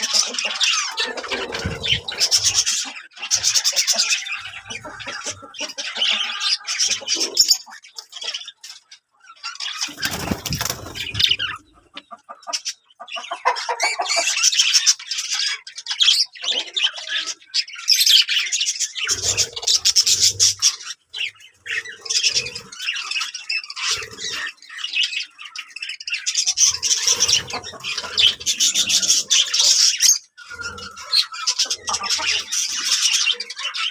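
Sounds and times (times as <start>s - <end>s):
budgerigars chattering and squawking: 0.0s - 33.9s.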